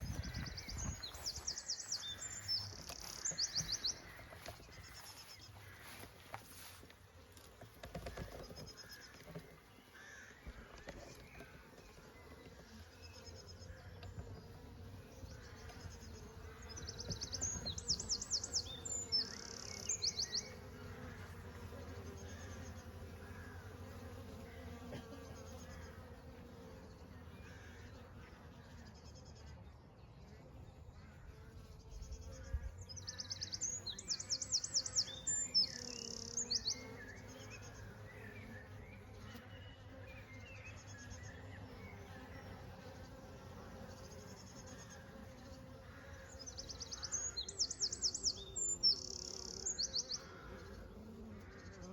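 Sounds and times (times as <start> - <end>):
bees buzzing: 0.0 - 28.4, 31.2 - 51.9.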